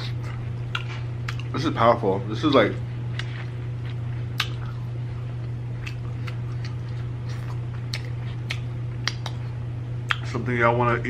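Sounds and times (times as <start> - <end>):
person chewing: 0.0 - 1.6, 2.5 - 10.2
low electrical hum: 0.0 - 11.0.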